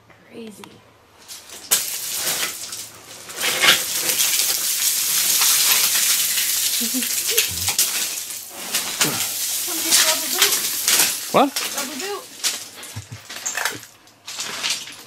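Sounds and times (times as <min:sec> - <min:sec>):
footsteps crunching on gravel and shells: 0:01.2 - 0:06.7, 0:07.5 - 0:15.0.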